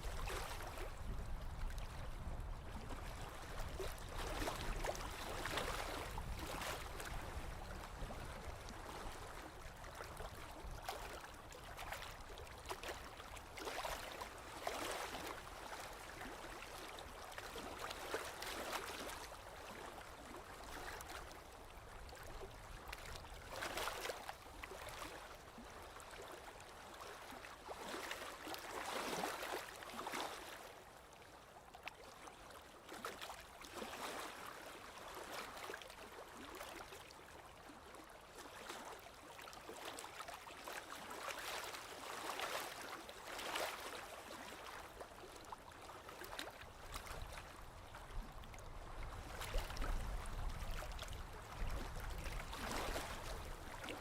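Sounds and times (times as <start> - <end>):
small waves lapping on shore: 0.0 - 54.0
soft water splash: 0.0 - 54.0.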